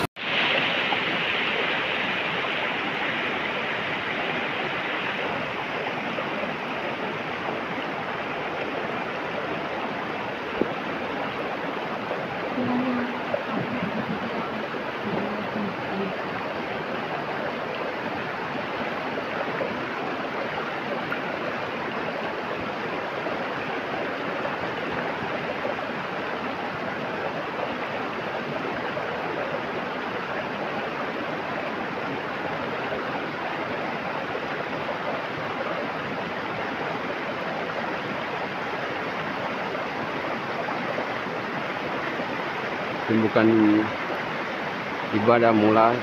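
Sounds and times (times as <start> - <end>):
river rushing: 0.0 - 46.0.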